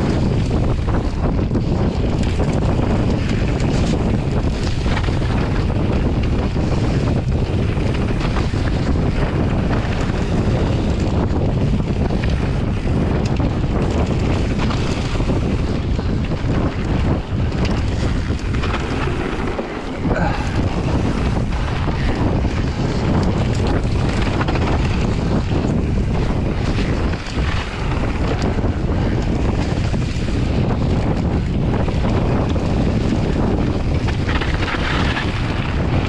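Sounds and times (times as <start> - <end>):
bike knocks and rattles: 0.0 - 36.0
tyres rumbling on trail: 0.0 - 36.0
wind buffeting microphone: 0.0 - 36.0.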